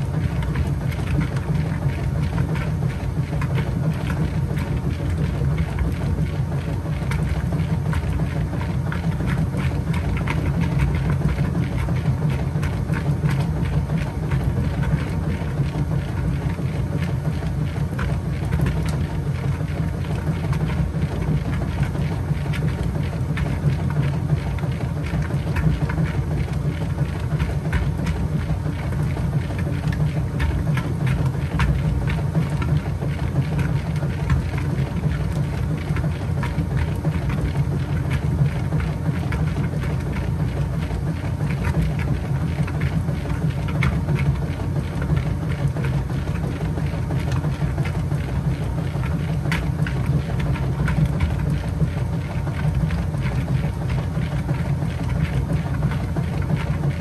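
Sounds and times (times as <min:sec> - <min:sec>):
washing machine motor hum: 0:00.0 - 0:57.0
water sloshing in washer tub: 0:00.0 - 0:57.0.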